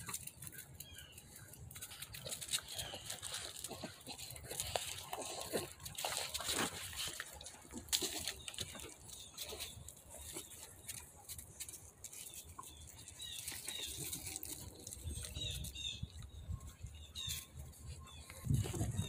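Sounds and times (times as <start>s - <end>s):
rustling and handling noise: 0.0s - 19.0s.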